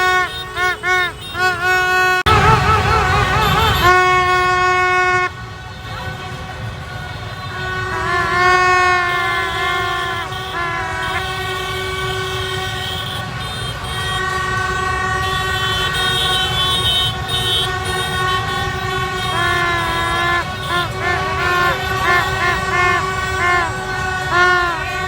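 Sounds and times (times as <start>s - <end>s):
car horns honking: 0.0s - 25.0s
street traffic rumble: 0.0s - 25.0s.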